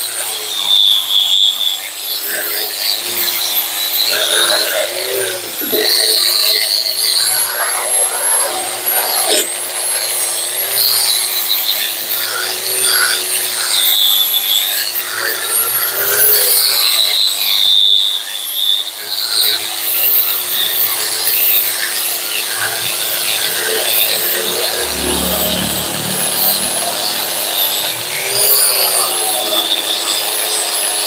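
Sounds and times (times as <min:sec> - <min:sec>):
angle grinder running: 0:00.0 - 0:31.0
grinder scraping metal: 0:00.0 - 0:31.0.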